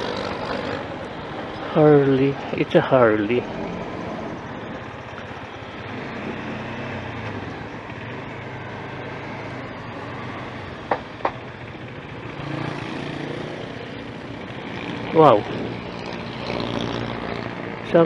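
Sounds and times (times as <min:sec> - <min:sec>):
motorcycle engine hum: 0:00.0 - 0:18.0
wind and road noise: 0:00.0 - 0:18.0.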